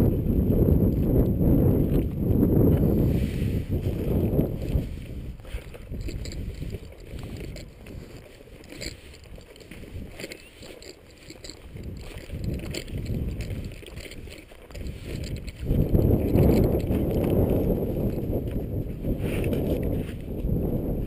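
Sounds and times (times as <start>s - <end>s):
wind rumbling on microphone: 0.0s - 21.0s
footsteps through dry grass: 0.3s - 21.0s.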